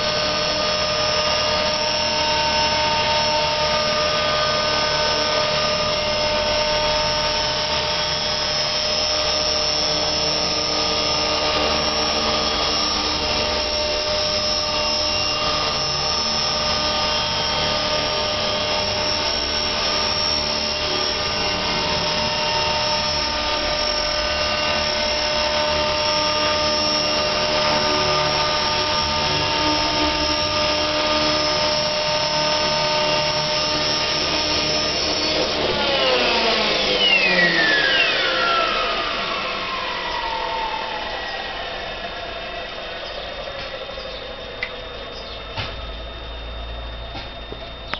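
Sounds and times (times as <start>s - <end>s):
rc helicopter motor whine: 0.0s - 47.9s.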